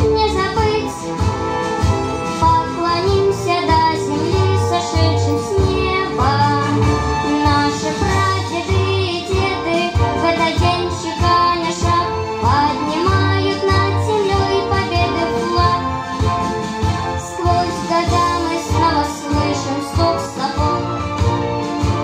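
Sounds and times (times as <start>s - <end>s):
boy singing into microphone: 0.0s - 0.9s, 2.4s - 15.9s, 17.3s - 20.9s
instrumental music with bass line: 0.0s - 22.0s.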